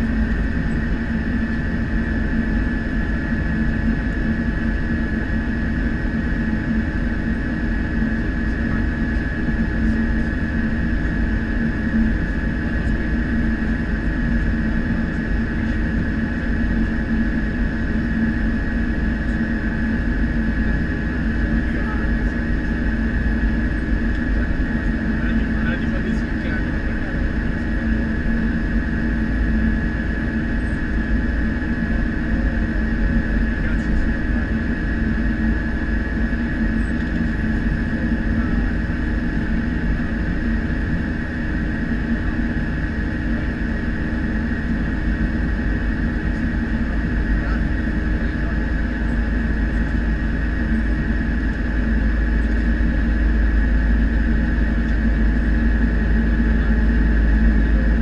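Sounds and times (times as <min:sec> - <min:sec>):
propeller drone and rumble: 0:00.0 - 0:58.0
turbine whine: 0:00.0 - 0:58.0.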